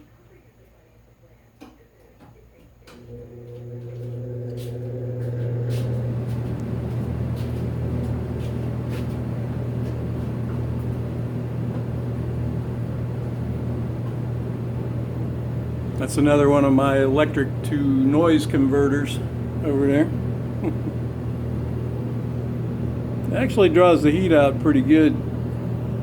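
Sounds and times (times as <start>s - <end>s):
exhaust fan running: 0.0s - 26.0s.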